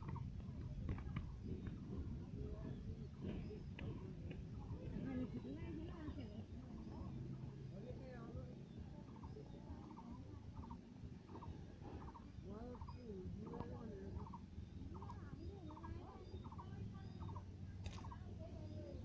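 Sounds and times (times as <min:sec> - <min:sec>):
faint bird calls: 0:00.0 - 0:19.0
low steady hum: 0:00.0 - 0:19.0.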